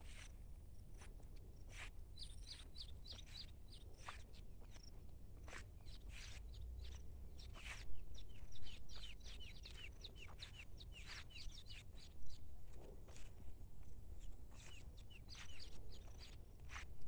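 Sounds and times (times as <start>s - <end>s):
small birds chirping: 1.6s - 16.8s.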